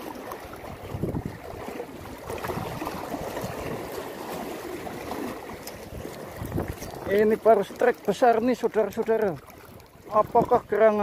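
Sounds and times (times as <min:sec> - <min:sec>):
waves lapping against rocks: 0:00.0 - 0:11.0.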